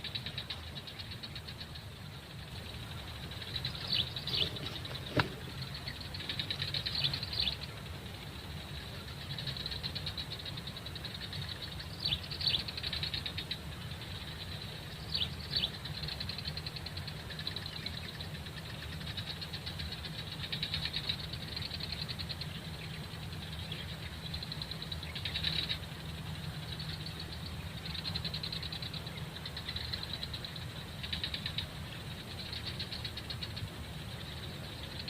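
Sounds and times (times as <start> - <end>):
low steady rumble: 0.0 - 35.0
pulsing chorus of wildlife: 0.0 - 35.0
bird chirps: 3.3 - 7.7, 9.2 - 35.0.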